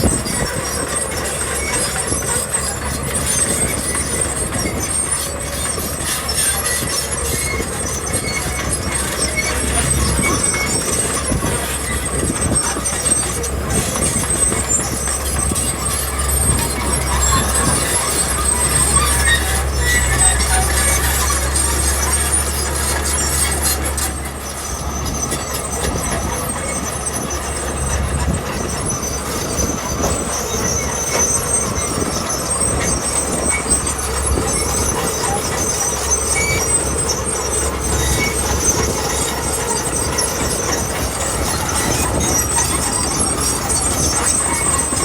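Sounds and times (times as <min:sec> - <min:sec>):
high metallic squeals: 0:00.0 - 0:45.0
low diesel rumble: 0:00.0 - 0:45.0.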